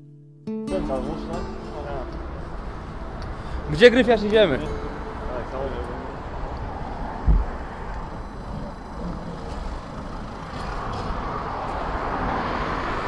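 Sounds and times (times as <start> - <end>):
motor vehicle passing: 1.1 - 13.0.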